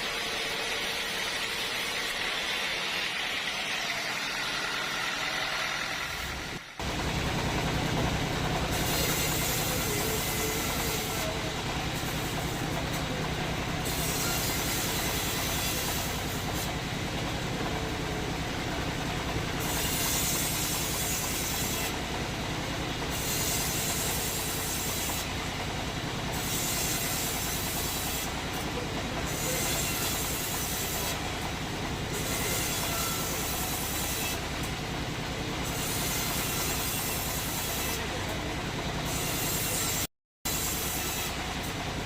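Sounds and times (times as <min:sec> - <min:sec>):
sawmill machinery humming: 0:00.0 - 0:42.0.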